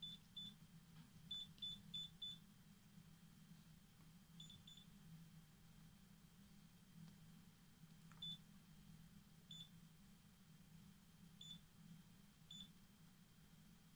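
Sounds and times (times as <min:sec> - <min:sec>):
faint low hum: 0:00.0 - 0:13.9.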